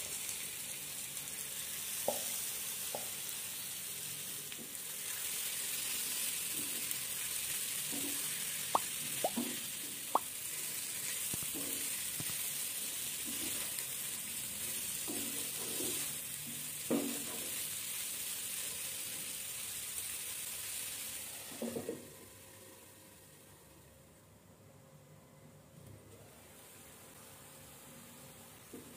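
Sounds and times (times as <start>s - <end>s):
prawns sizzling in oil: 0.0s - 23.8s, 26.3s - 28.9s.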